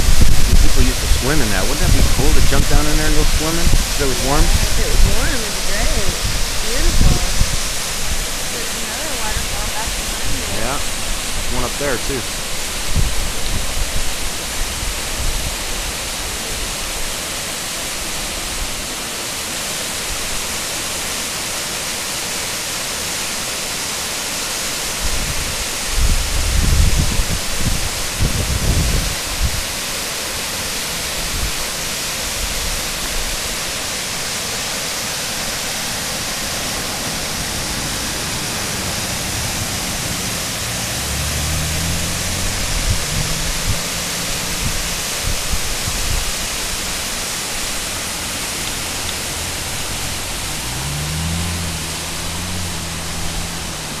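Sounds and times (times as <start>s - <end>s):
passing vehicles engine hum: 0.0s - 18.7s, 20.2s - 54.0s
waterfall rushing and splashing: 0.0s - 54.0s.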